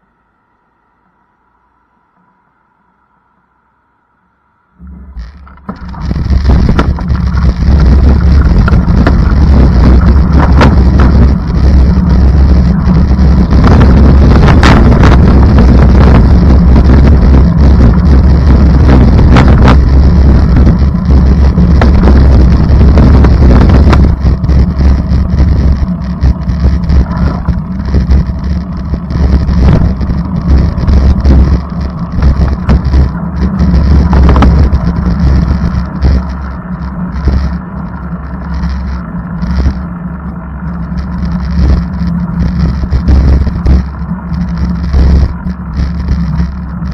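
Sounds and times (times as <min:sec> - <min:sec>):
vehicle rumble from inside: 0:00.0 - 0:46.9
wind buffeting on microphone: 0:04.8 - 0:46.9.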